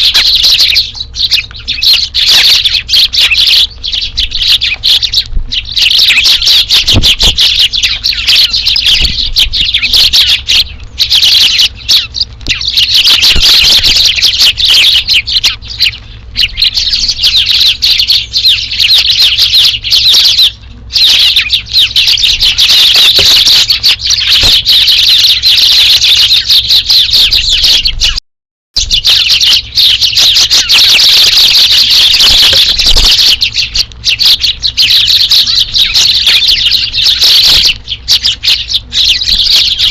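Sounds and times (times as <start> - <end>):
sparrows chirping: 0.0 - 28.2, 28.8 - 39.9.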